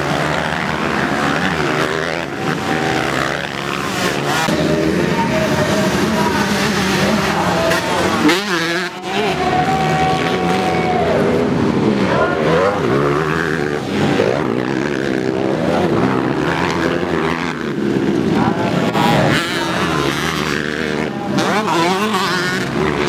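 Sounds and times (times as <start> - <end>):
motorbike engines revving: 0.0 - 23.0.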